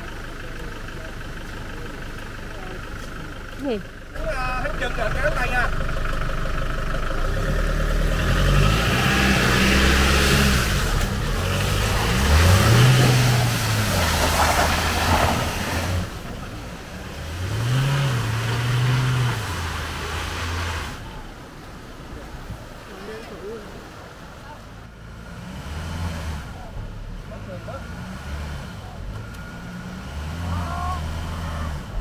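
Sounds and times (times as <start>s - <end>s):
truck engine revving: 0.0s - 22.8s, 23.7s - 32.0s.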